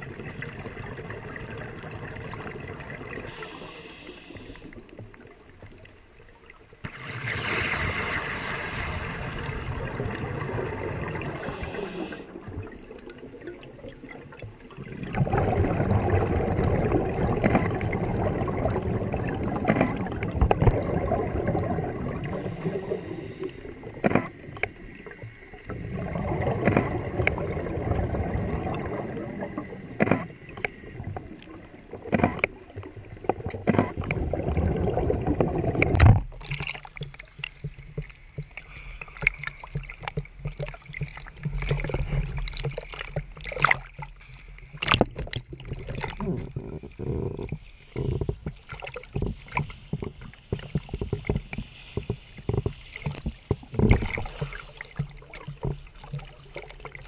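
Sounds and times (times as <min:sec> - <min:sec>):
regulator exhaust bubbles underwater: 0:00.0 - 0:57.0
water lapping and sloshing: 0:00.0 - 0:57.0.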